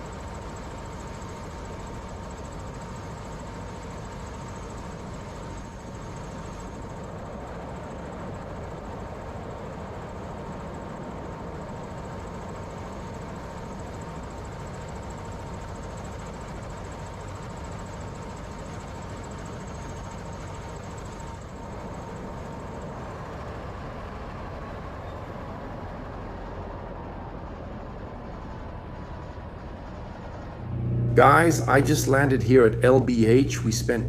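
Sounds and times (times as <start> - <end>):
thin steady whine: 0.0 - 25.2, 26.0 - 34.0
helicopter engine and rotor noise: 0.0 - 34.0.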